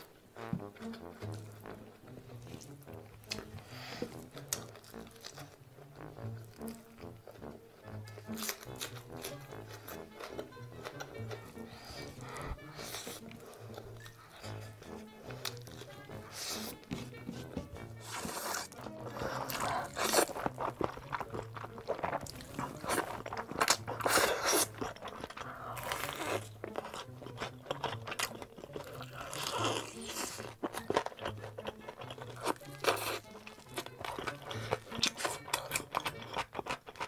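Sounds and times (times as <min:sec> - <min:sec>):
noodles slurped: 0:00.0 - 0:37.0
crunchy bites and chewing: 0:02.4 - 0:37.0.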